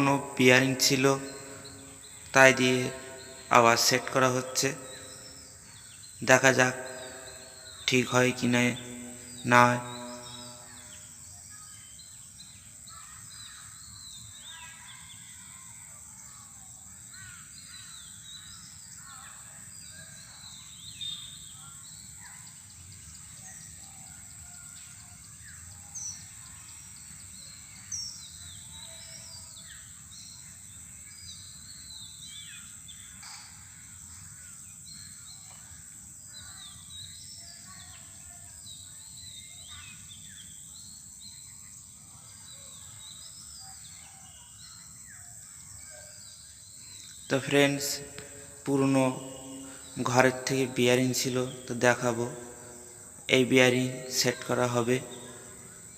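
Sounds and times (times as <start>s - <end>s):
birds chirping and calling: 0.0s - 55.9s.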